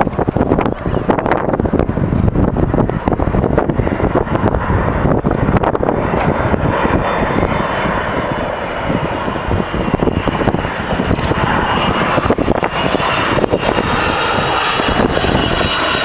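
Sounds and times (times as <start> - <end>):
airliner jet noise: 0.0 - 16.0
high engine whine: 0.0 - 16.0.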